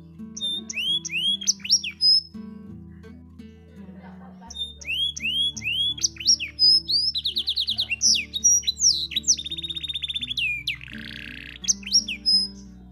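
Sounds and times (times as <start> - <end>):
canary singing: 0.0 - 3.2, 4.3 - 12.9
soft background music: 0.0 - 12.9.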